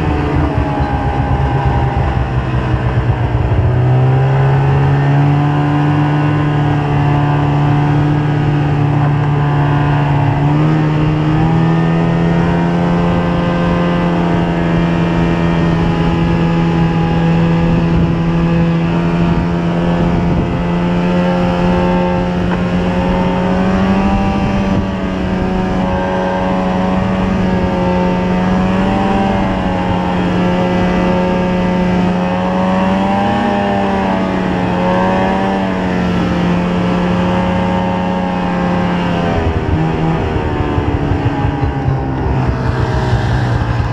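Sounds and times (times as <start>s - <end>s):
rushing noise of travel: 0.0s - 43.9s
snowmobile engine: 0.0s - 43.9s.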